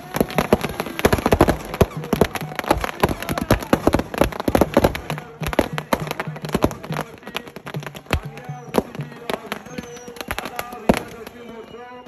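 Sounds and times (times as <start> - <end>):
firecrackers banging and crackling: 0.0 - 12.0.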